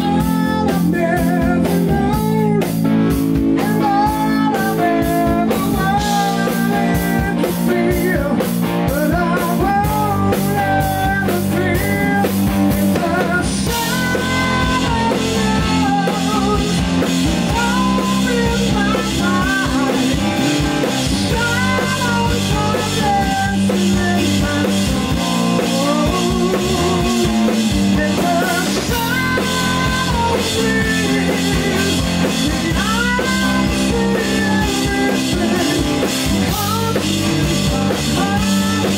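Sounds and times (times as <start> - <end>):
bass guitar: 0.0 - 38.9
drum kit with cymbals: 0.0 - 38.9
electric guitar: 0.0 - 38.9
man singing: 0.0 - 38.9.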